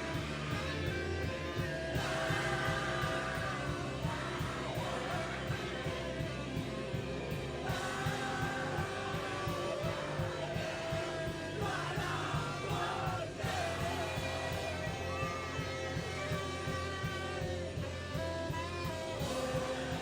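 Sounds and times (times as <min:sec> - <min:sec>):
rock song with vocals: 0:00.0 - 0:20.0.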